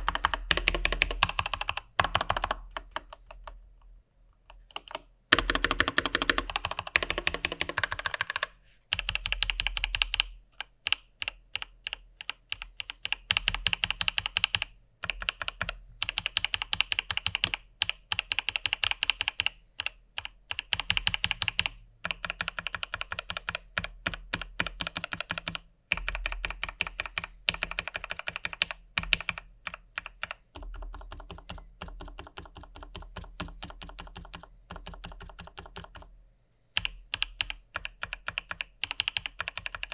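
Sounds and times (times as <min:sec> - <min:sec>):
mechanical keyboard typing: 0:00.0 - 0:03.6, 0:04.5 - 0:36.1, 0:36.8 - 0:39.9.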